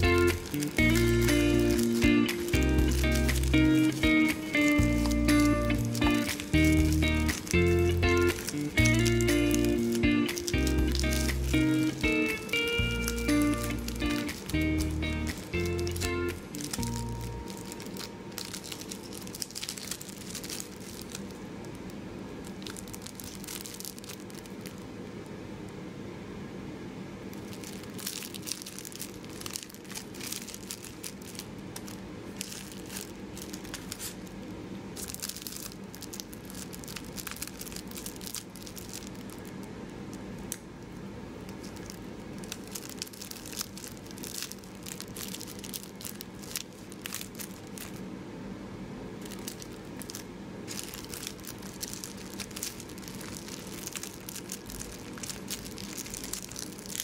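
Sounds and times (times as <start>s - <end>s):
plastic wrapper crinkling: 0.0s - 25.0s, 27.3s - 48.1s, 49.2s - 57.0s
faint low hum: 0.0s - 57.0s.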